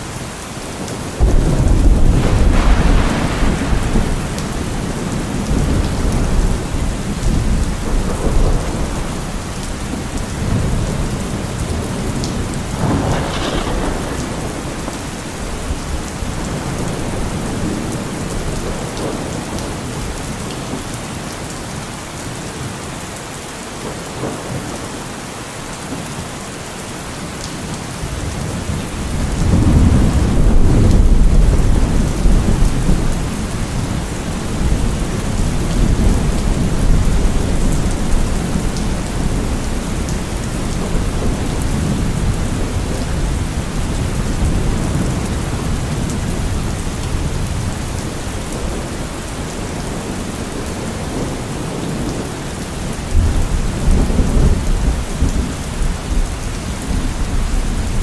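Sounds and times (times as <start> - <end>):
steady rain: 0.0 - 58.0
rolling thunder: 1.2 - 20.2, 28.1 - 58.0.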